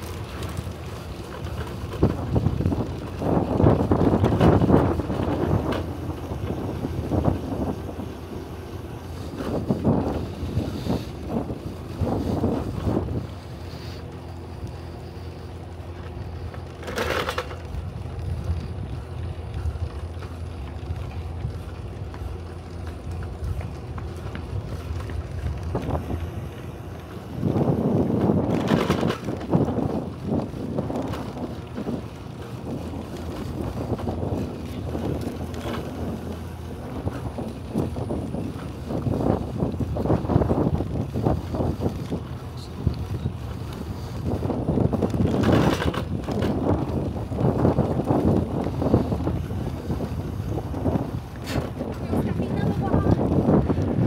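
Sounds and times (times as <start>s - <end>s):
steady low hum: 0.0s - 54.0s
wind buffeting microphone: 0.0s - 54.0s.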